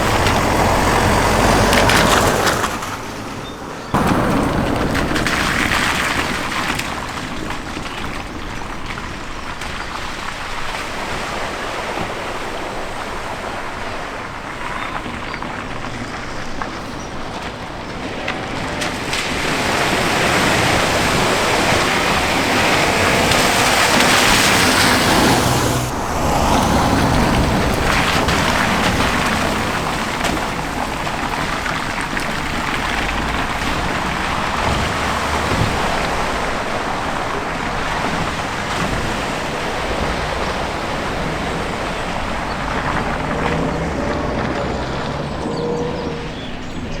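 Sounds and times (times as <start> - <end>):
flowing water: 0.0 - 47.0
vehicle engine noise: 0.0 - 47.0
water splashing against vehicles: 0.0 - 47.0.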